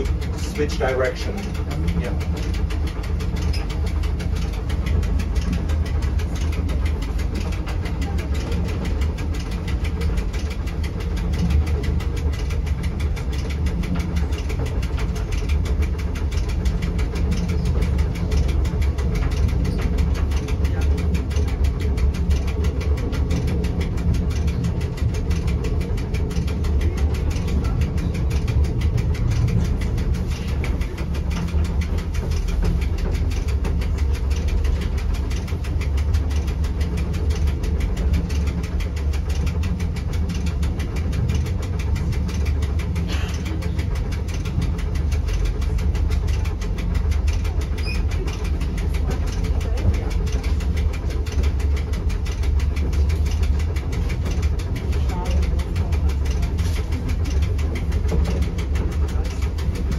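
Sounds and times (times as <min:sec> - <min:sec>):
electric rack train droning: 0:00.0 - 0:59.9.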